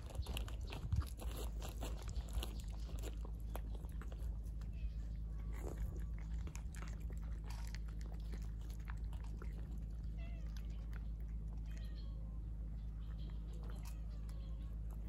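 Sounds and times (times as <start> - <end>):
cats crunching dry kibble: 0.0 - 15.0
steady low hum: 0.0 - 15.0.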